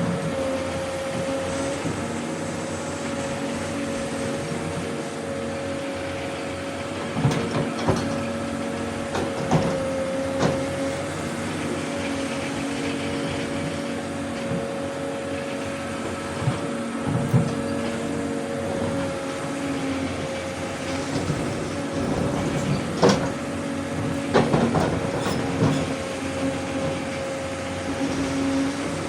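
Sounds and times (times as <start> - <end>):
excavator engine and hydraulics whine: 0.0 - 29.0.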